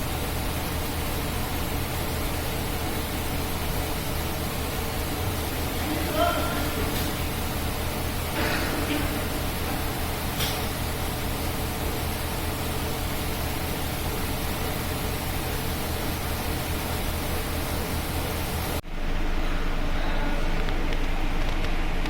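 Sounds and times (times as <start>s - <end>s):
dull steady hum: 0.0s - 22.0s
grinding machinery humming: 0.0s - 22.0s.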